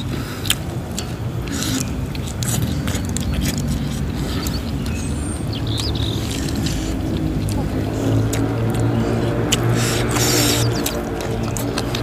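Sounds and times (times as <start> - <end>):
person chewing crunchy food: 0.0 - 12.0
steady low hum: 0.0 - 12.0.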